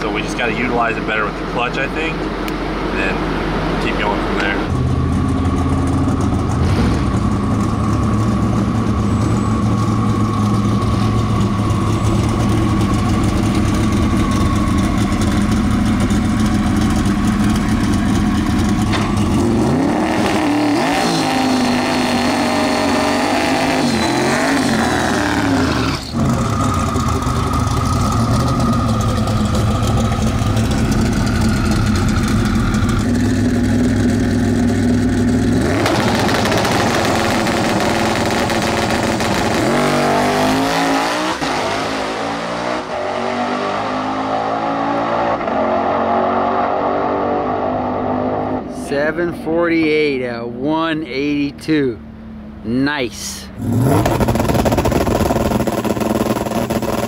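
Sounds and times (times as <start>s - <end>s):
car engine idling and revving: 0.0s - 52.7s, 53.3s - 57.0s
high turbo whine: 0.0s - 57.0s.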